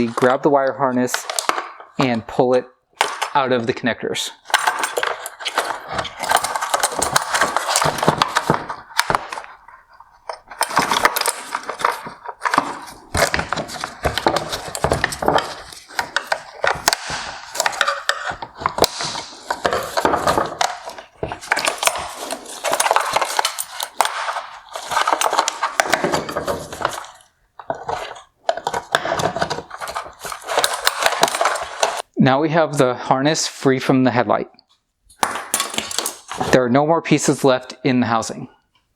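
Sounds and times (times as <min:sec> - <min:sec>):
plastic parts clicking and rattling: 0:00.0 - 0:03.7, 0:04.4 - 0:32.1, 0:35.1 - 0:36.6.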